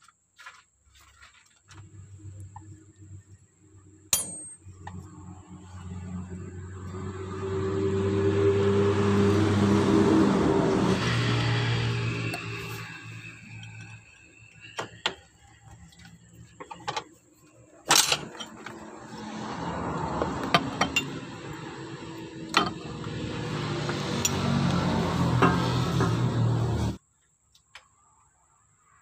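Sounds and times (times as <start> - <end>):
vehicle engine running: 1.7 - 27.0.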